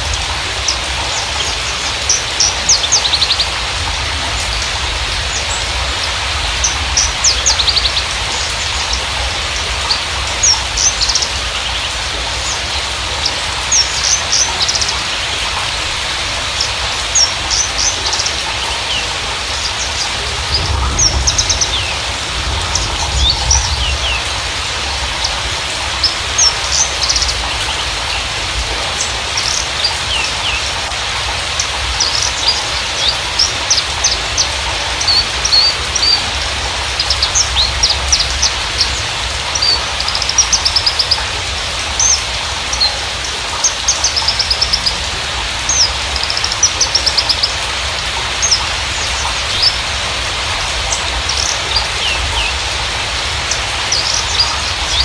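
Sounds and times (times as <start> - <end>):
bird chirps and trills: 0.0 - 55.0
steady noisy hiss: 0.0 - 55.0.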